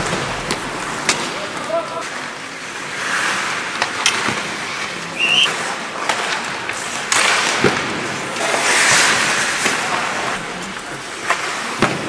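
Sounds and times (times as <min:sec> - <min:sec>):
crowd and rink noise: 0:00.0 - 0:12.0
hockey sticks clacking on puck: 0:00.0 - 0:12.0.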